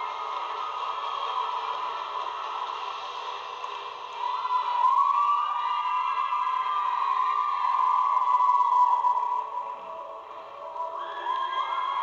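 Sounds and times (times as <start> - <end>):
crowd cheering and screaming: 0.0 - 12.0.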